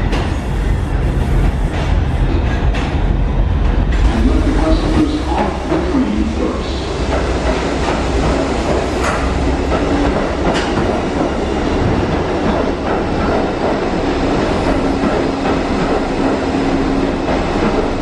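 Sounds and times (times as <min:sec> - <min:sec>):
subway train wheels clacking: 0:00.0 - 0:18.0.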